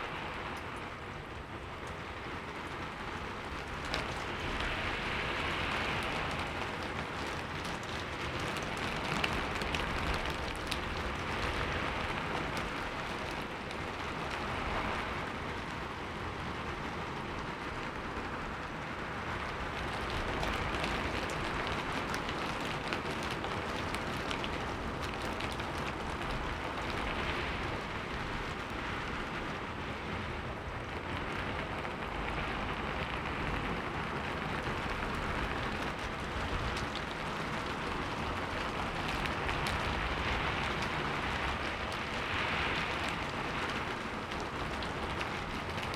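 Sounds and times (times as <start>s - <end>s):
raindrop ticks: 0.1s - 45.9s.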